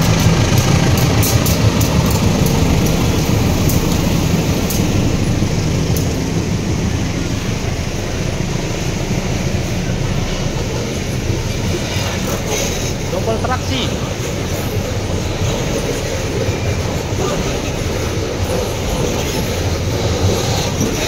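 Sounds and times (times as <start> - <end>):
locomotive engines droning: 0.0 - 21.0
wagon wheels rolling on rails: 0.0 - 21.0.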